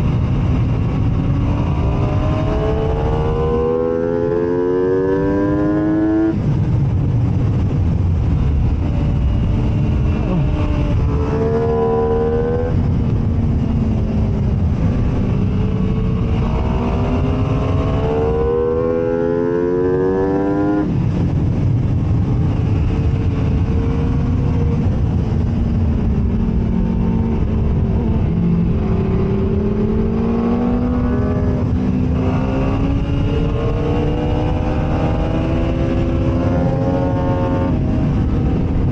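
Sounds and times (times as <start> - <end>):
low wind rush: 0.0 - 38.9
motorcycle engine accelerating: 0.0 - 38.9.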